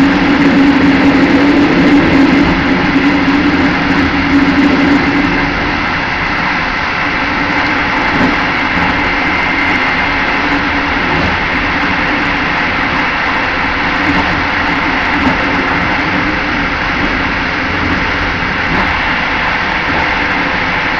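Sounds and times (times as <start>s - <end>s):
low hum: 0.0s - 20.9s
train wheels rumbling on track: 0.0s - 20.9s.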